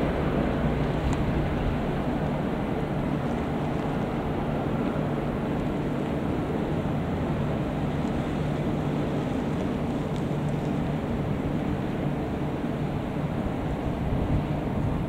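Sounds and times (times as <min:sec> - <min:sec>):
distant jet engines rumbling: 0:00.0 - 0:15.0.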